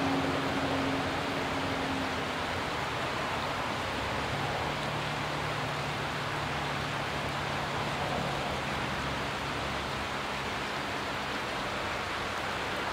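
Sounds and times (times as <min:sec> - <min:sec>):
water rushing over rocks: 0:00.0 - 0:12.9.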